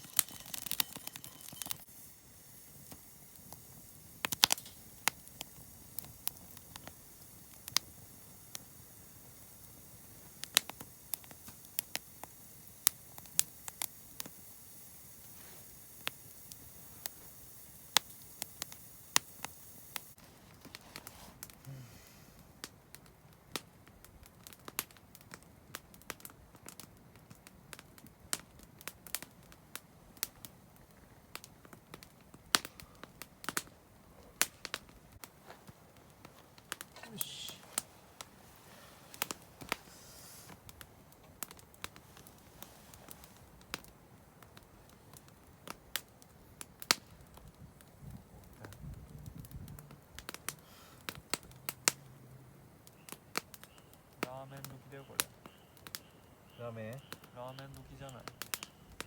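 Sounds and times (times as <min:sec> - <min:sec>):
campfire crackling and popping: 0:00.0 - 0:59.0
low hiss: 0:00.0 - 0:59.0.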